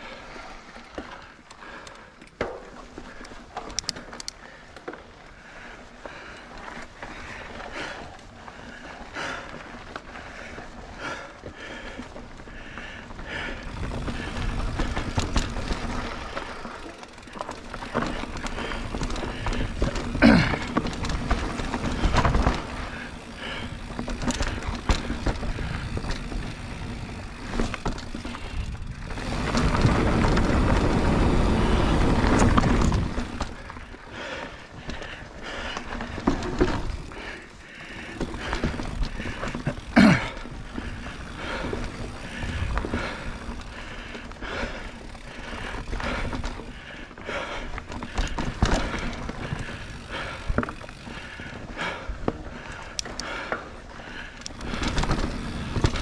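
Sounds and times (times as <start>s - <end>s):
bike clicks and rattles: 0.0s - 56.0s
bike tyre noise on dirt: 0.0s - 56.0s.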